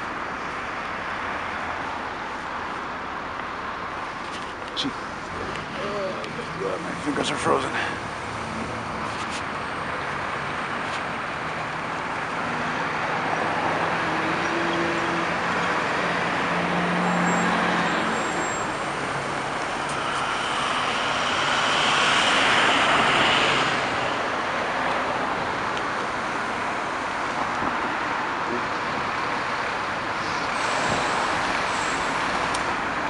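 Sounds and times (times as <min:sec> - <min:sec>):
bus passing close: 0:00.0 - 0:33.0
traffic driving past: 0:00.0 - 0:33.0
heavy truck engine passing: 0:04.8 - 0:33.0.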